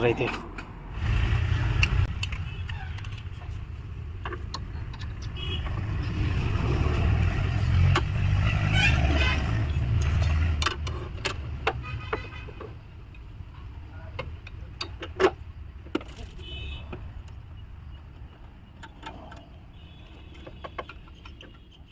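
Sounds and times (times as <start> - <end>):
car engine rumbling: 0.0 - 21.9
sharp clicks and knocks: 1.7 - 6.2, 7.1 - 8.4, 9.6 - 21.9.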